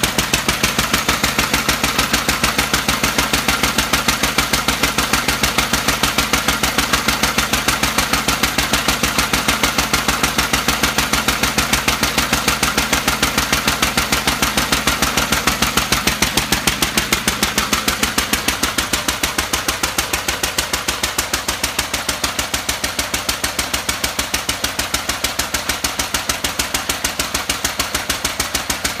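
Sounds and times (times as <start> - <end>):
stationary engine running: 0.0 - 29.0.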